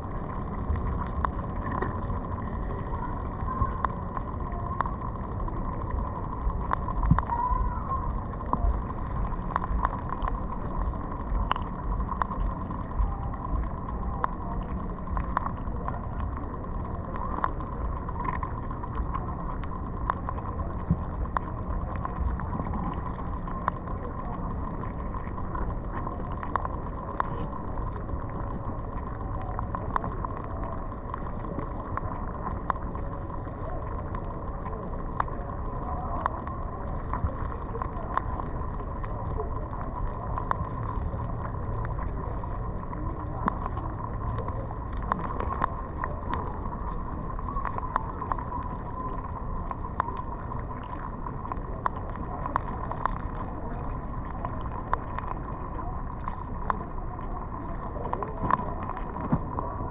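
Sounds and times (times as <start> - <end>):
faint steady hum: 0.0 - 59.9
muffled underwater rumble: 0.0 - 59.9
sharp underwater clicks: 0.0 - 59.9.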